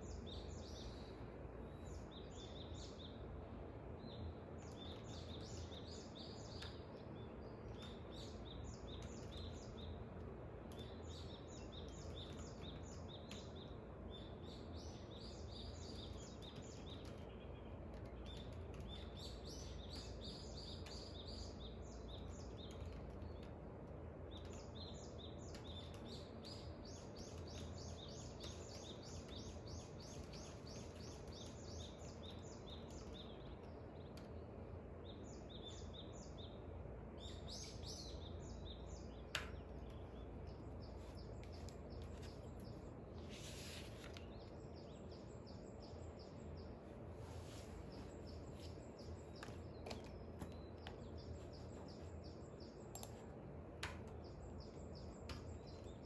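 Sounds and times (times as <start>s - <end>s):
birds chirping and trilling: 0.0s - 56.0s
low background noise: 0.0s - 56.0s.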